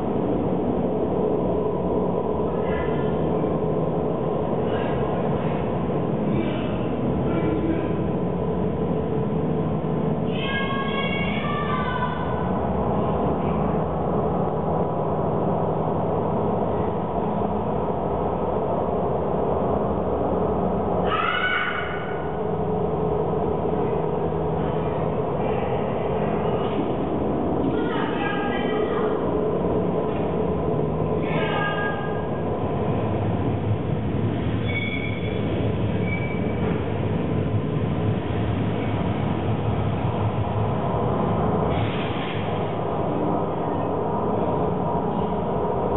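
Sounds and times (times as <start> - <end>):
low rumbling drone: 0.0 - 45.9.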